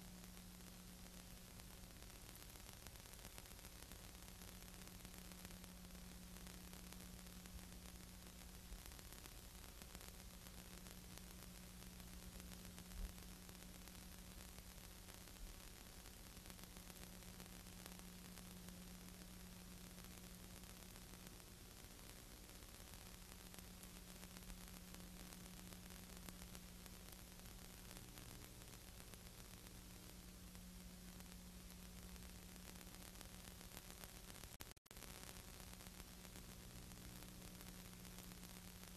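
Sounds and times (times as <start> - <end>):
light scattered crackle: 0.0 - 38.9
low mains hum: 0.0 - 38.9
steady hiss: 0.0 - 38.9.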